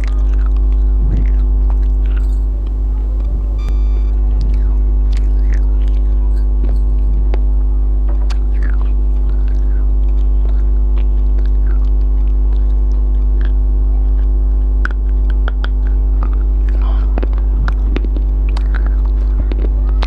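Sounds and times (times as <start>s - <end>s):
chewing and smacking: 0.0s - 20.0s
electrical mains hum: 0.0s - 20.0s.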